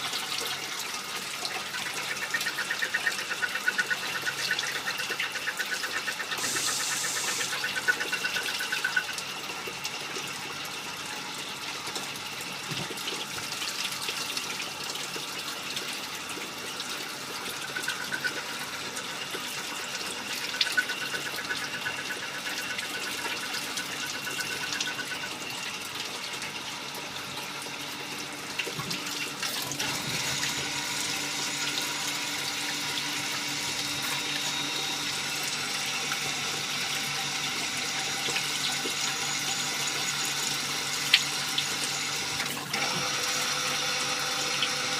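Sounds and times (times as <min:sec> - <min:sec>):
coolant hissing and splashing: 0:00.0 - 0:44.9.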